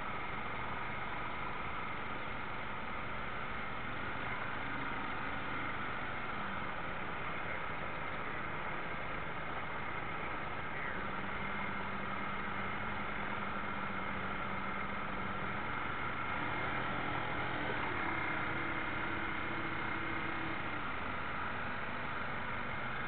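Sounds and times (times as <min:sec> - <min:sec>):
model boat motor humming: 0:03.1 - 0:23.0.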